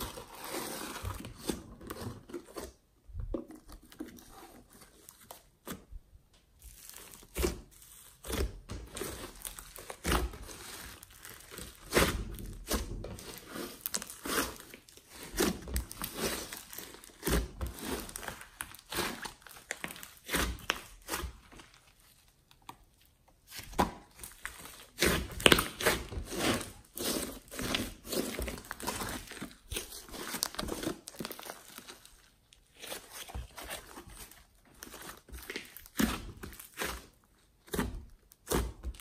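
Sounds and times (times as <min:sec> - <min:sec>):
slime squishing and crackling: 0:00.0 - 0:39.0.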